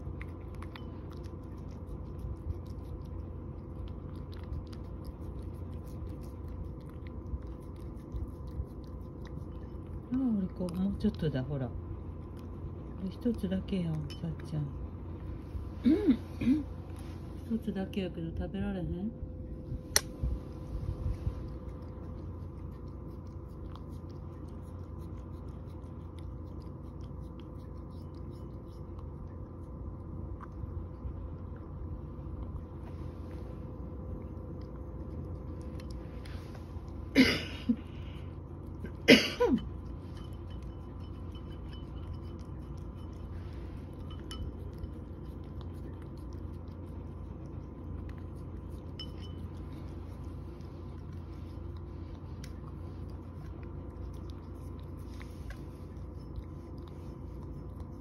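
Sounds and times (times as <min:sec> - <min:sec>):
cat chewing dry kibble: 0:00.0 - 0:15.8, 0:19.4 - 0:58.0
room hum: 0:00.0 - 0:58.0.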